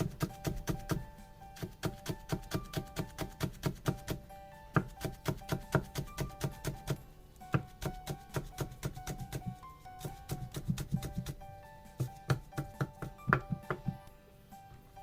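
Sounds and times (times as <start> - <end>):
light bouncy plucked music: 0.0 - 15.0.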